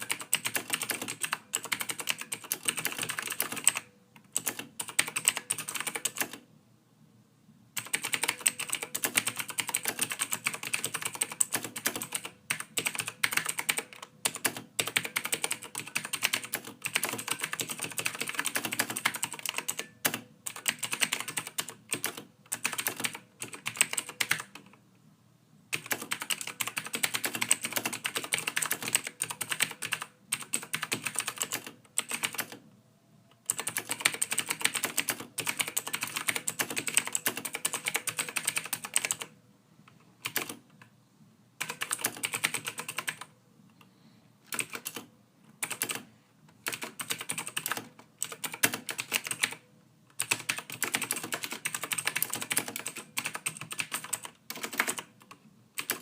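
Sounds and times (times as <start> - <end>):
typing on computer keyboard: 0.0 - 6.4, 7.8 - 24.8, 25.7 - 32.6, 33.4 - 39.3, 40.2 - 40.6, 41.6 - 43.3, 44.5 - 56.0.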